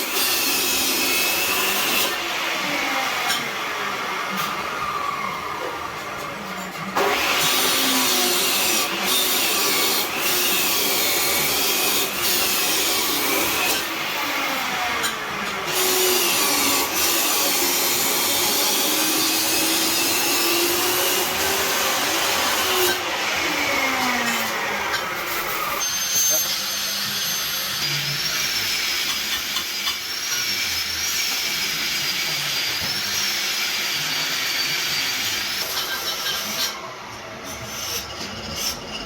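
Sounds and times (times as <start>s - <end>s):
power tool grinding metal: 0.0s - 5.8s, 6.5s - 36.8s.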